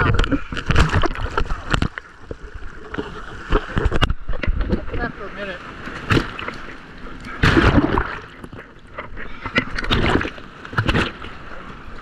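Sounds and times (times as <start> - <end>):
waves breaking and splashing: 0.0 - 12.0.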